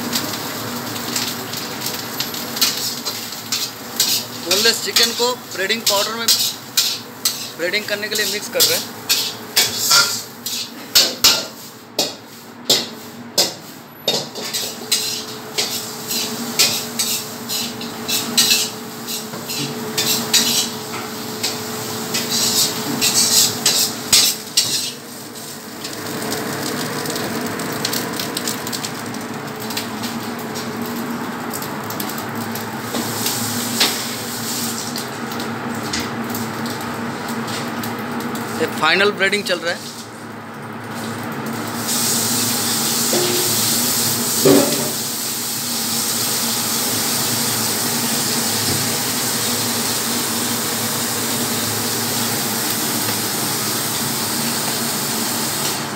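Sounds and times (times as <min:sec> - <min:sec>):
steady background hum: 0:00.0 - 0:45.2.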